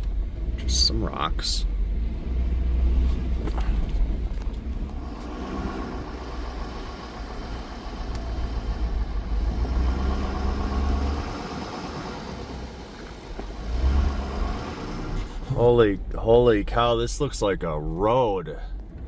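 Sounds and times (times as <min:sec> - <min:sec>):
pickup truck driving on dirt road: 0:00.0 - 0:19.0.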